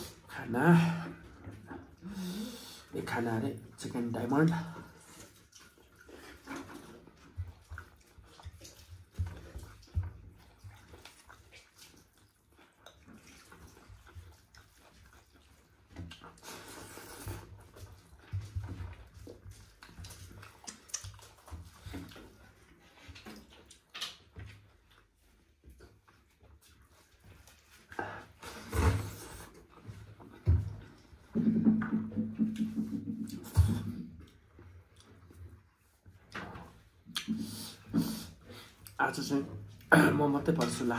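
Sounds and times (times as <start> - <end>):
person chewing and smacking: 5.0 - 39.0.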